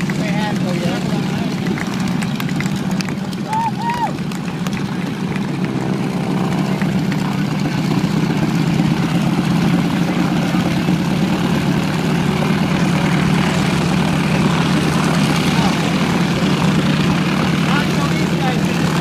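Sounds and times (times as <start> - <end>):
steady engine drone: 0.0 - 19.0.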